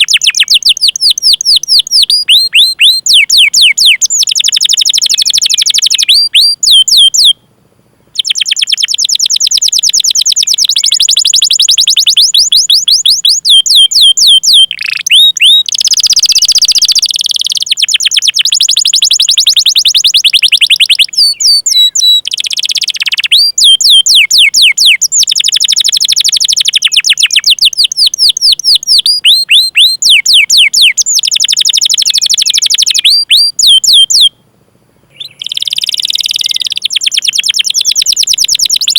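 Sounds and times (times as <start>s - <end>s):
canary singing: 0.0s - 7.4s, 8.2s - 34.4s, 35.1s - 38.9s.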